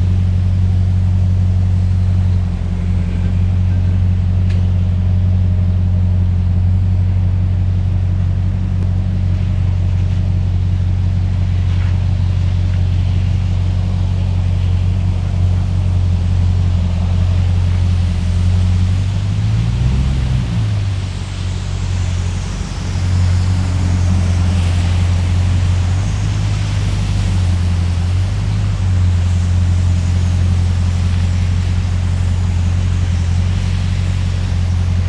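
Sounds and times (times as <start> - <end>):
engine deep drone: 0.0 - 35.0.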